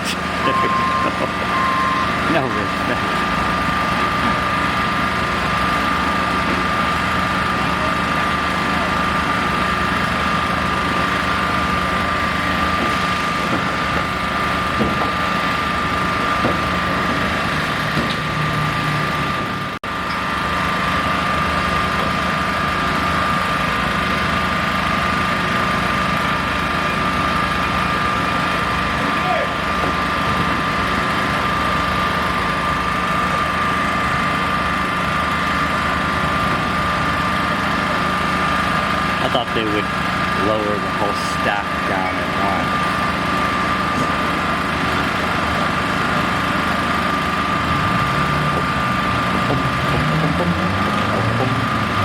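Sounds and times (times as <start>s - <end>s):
heavy machinery engine whining: 0.0s - 52.0s.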